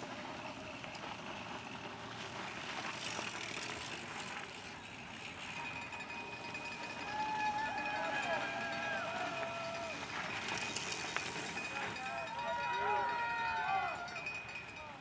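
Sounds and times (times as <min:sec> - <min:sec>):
bike tyres on dirt: 0:00.0 - 0:14.8.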